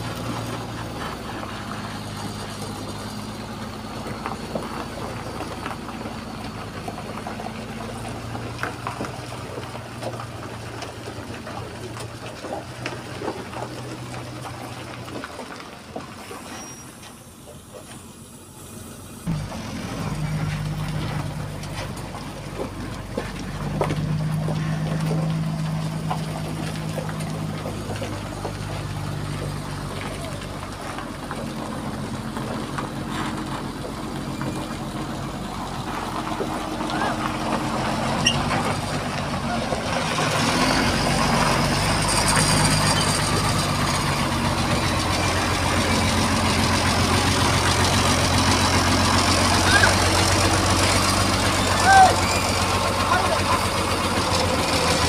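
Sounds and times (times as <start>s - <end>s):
trailer rolling with clicks and knocks: 0.0s - 55.0s
truck engine humming: 0.0s - 55.0s.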